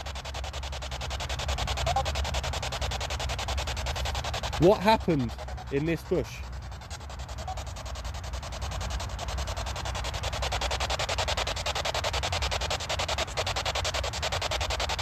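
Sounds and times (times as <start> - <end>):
pulsing radio static: 0.9 - 15.0.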